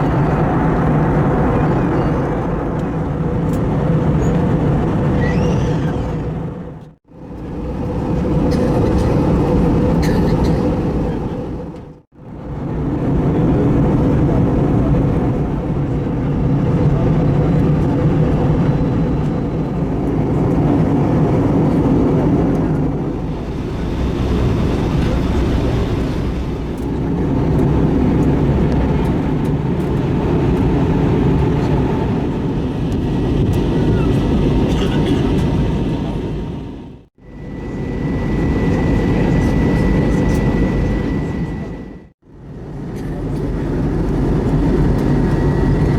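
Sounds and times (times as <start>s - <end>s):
airliner roar in flight: 0.0s - 45.9s.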